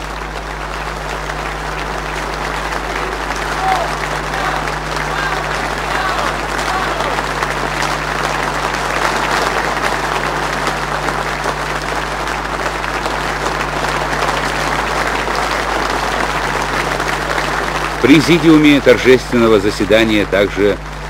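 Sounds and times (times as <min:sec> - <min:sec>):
audience applause: 0:00.0 - 0:21.0
low electrical hum: 0:00.0 - 0:21.0.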